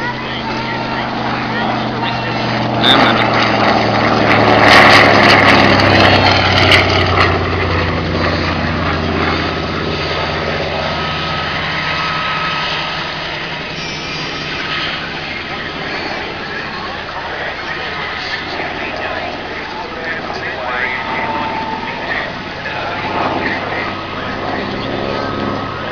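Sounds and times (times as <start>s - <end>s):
propeller aircraft flying past: 0.0s - 25.9s.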